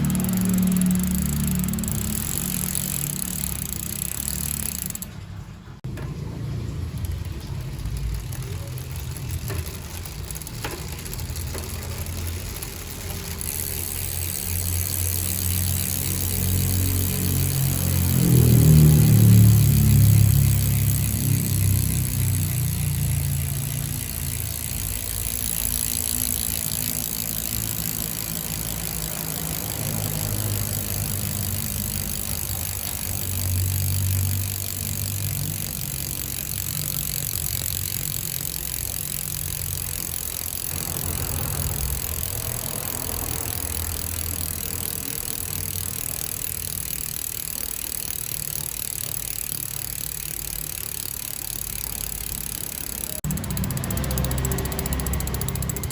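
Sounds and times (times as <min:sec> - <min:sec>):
bicycle freehub clicking: 0:00.0 - 0:55.9.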